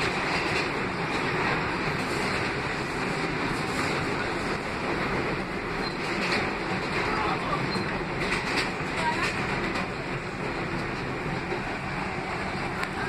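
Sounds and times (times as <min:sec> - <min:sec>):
subway car rumble and rail noise: 0:00.0 - 0:13.0.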